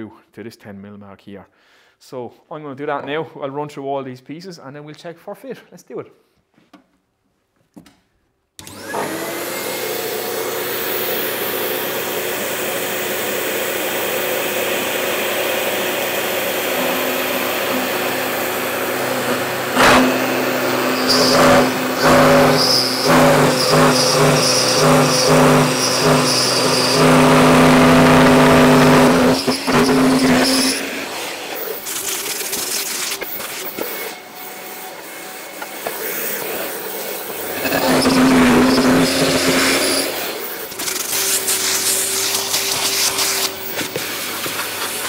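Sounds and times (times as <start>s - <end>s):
dust extraction vacuum: 8.6s - 45.0s
router cutting wood: 8.6s - 45.0s
router whining: 8.6s - 45.0s.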